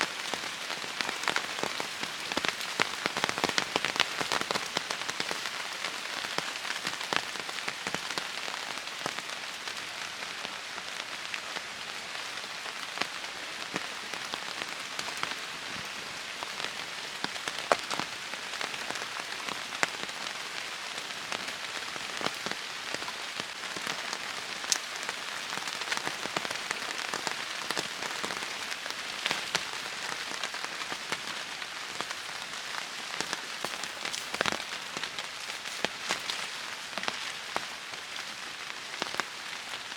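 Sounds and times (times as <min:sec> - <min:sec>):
heavy rain hiss: 0:00.0 - 0:39.9
raindrops pattering and ticking: 0:00.0 - 0:39.9.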